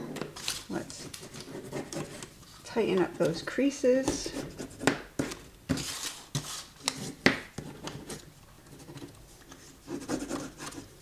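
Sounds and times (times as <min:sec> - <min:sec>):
paper handling noise: 0:00.3 - 0:03.5, 0:04.1 - 0:11.0.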